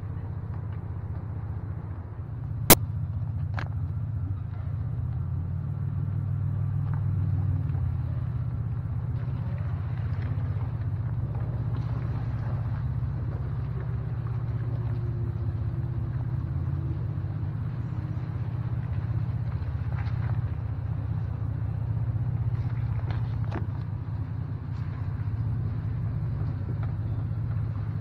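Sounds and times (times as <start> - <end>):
car driving rumble: 0.0 - 28.0.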